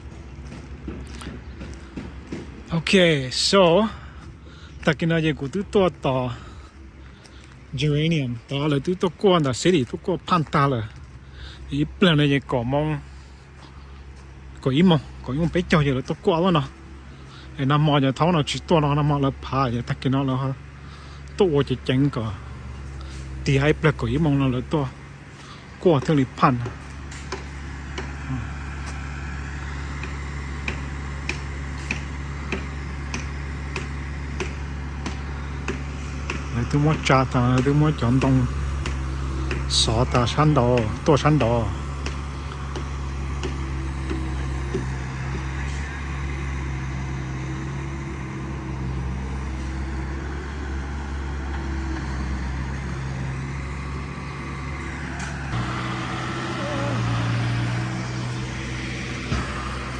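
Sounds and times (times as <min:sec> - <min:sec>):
road noise: 0:00.0 - 0:59.9
vehicle engine humming: 0:00.0 - 0:59.9.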